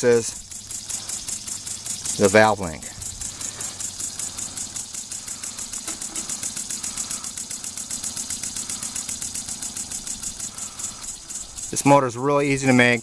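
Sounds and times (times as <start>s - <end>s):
model steam engine chuffing: 0.0s - 13.0s.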